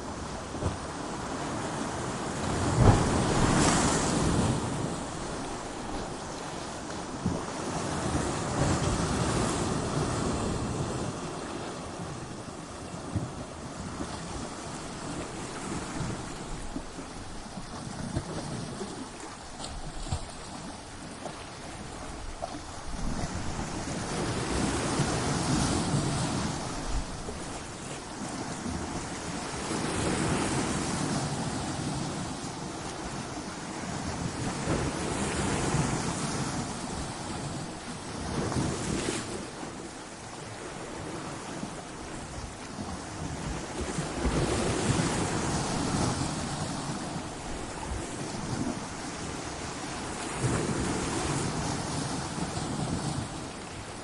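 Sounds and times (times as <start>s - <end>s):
ocean waves breaking on rocks: 0.0s - 54.0s.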